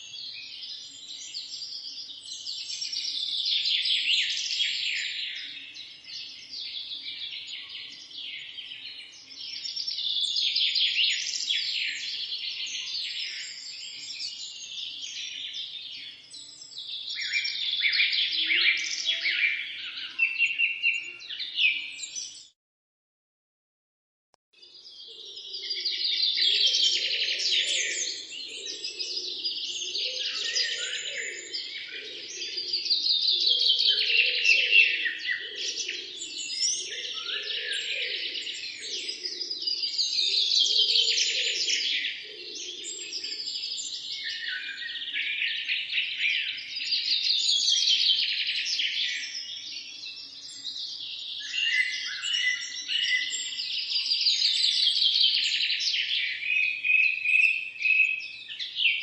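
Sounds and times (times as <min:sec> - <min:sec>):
birds chirping and singing: 0:00.0 - 0:22.6, 0:24.6 - 0:59.0.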